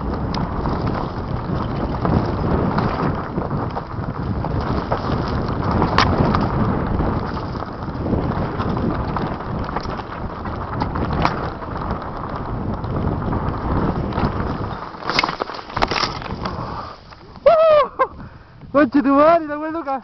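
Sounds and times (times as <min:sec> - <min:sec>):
mountain bike rattling on dirt trail: 0:00.0 - 0:20.0
wind buffeting microphone: 0:00.0 - 0:20.0.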